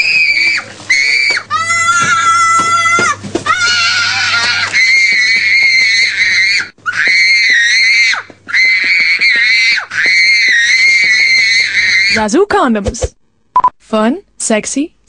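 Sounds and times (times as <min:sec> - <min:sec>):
child screaming: 0:00.0 - 0:12.2.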